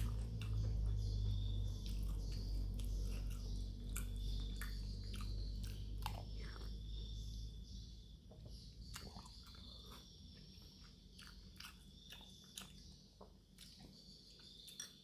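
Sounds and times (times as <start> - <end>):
close chewing: 0.0 - 7.1, 8.4 - 15.0.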